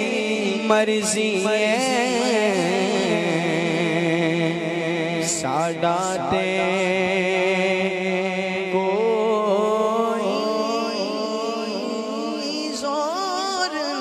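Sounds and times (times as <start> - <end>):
person singing wordless melisma: 0.0 - 14.0.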